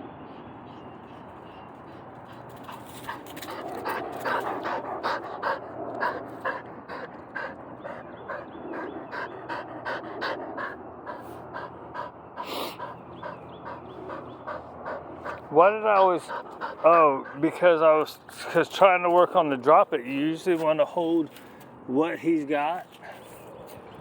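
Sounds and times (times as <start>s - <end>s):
dog panting: 0.3s - 20.2s.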